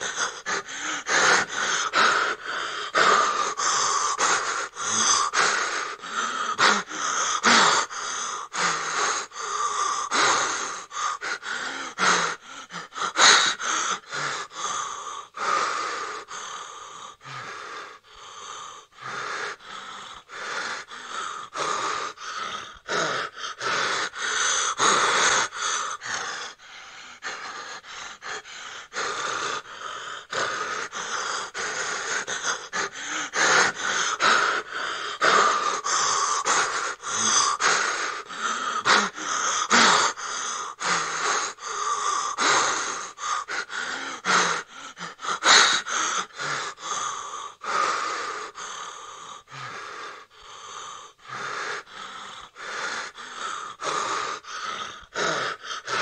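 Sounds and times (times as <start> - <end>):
person gasping frightened breathing: 0.0 - 56.0.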